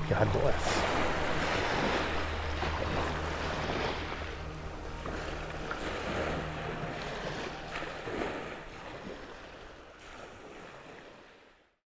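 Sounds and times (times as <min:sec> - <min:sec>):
surf washing on shore: 0:00.0 - 0:11.6.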